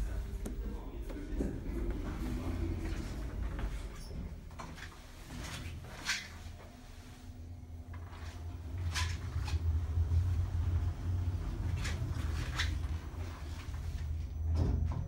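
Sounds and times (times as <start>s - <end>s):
elevator low hum: 0.0s - 15.0s.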